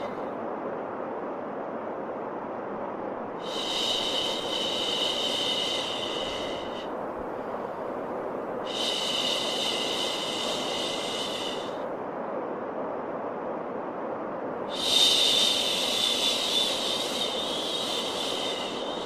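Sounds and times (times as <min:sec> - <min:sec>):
steady white noise: 0:00.0 - 0:19.0.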